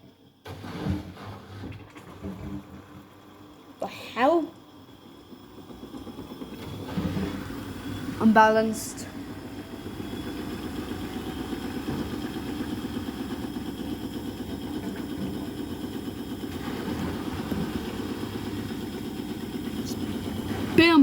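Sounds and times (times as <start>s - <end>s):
washing machine spinning and shaking: 0.0s - 21.0s.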